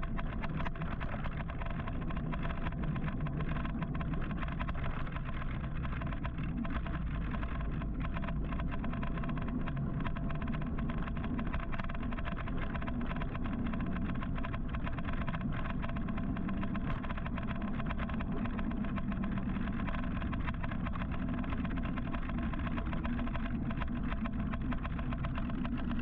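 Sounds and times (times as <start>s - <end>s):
faint steady whine: 0.0s - 26.0s.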